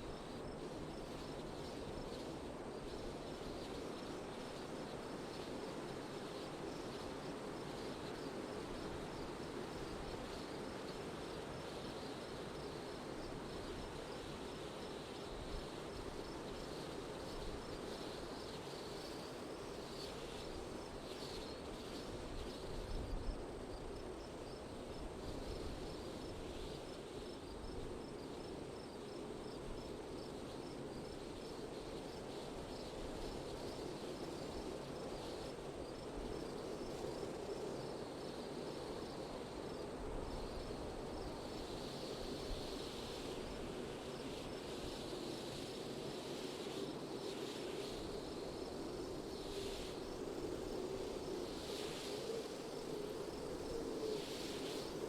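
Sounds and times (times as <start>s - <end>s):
insects chirping: 0.0s - 55.0s
wind: 0.0s - 55.0s.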